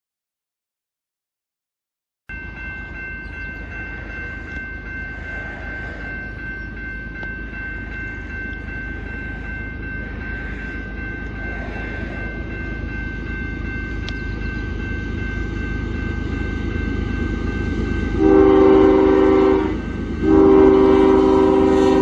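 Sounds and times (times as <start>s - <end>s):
freight train rumble: 2.3s - 22.0s
high-pitched ringing tone: 2.3s - 22.0s.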